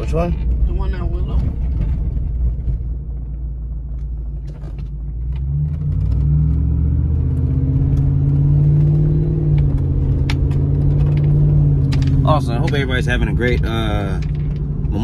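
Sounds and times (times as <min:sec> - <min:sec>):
truck engine and exhaust rumble: 0:00.0 - 0:15.0.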